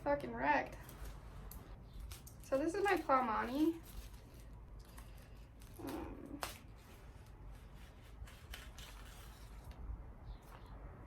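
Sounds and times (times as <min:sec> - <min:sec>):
packaging rustling and crinkling: 0:00.8 - 0:09.8.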